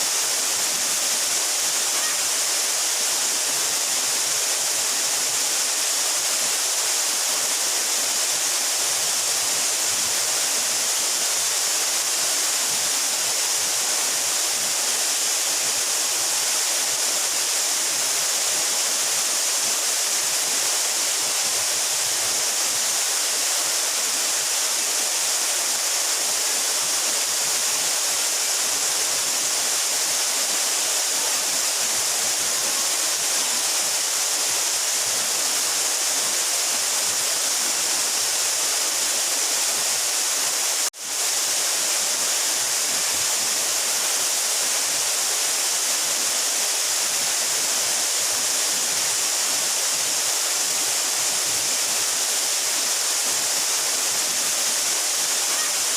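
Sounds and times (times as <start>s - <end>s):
waterfall falling: 0.0s - 55.9s.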